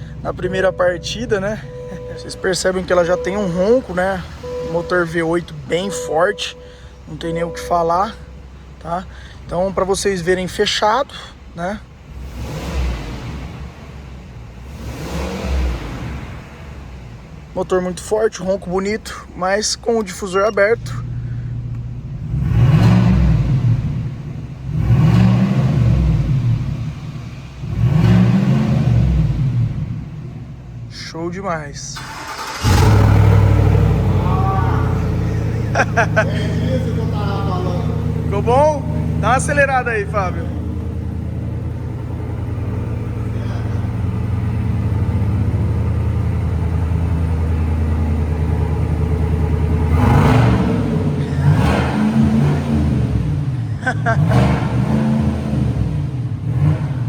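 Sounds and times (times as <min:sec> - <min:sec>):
engine revving through open exhaust: 0:00.0 - 0:31.0, 0:31.7 - 0:57.0.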